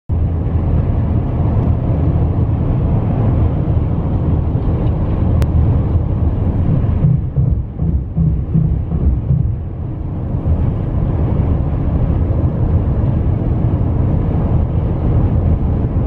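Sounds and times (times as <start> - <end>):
car cabin road noise: 0.1 - 16.0.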